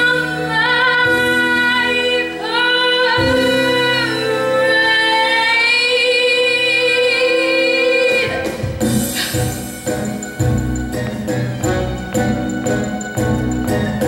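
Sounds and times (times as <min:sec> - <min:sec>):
musical accompaniment: 0:00.0 - 0:14.0.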